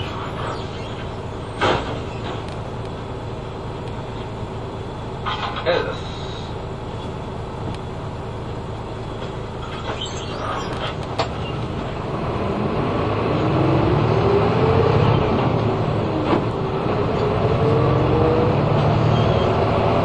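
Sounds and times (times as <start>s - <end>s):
bus diesel engine: 0.0s - 20.0s.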